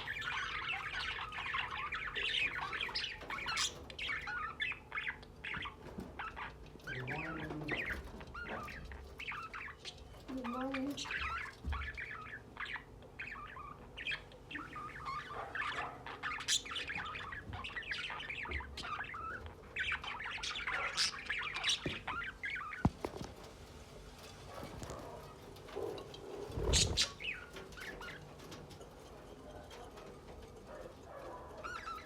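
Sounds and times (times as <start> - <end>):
lovebirds chirping and squawking: 0.0 - 32.0.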